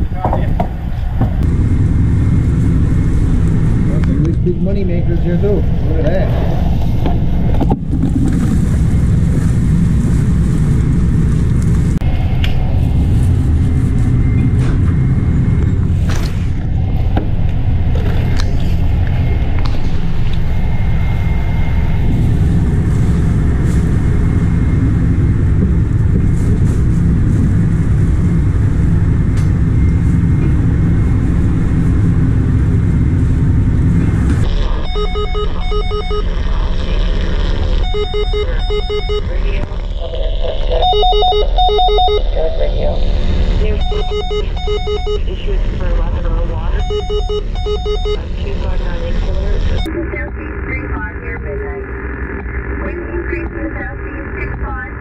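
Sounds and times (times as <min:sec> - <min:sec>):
boat engine rumble: 0:00.0 - 0:55.0.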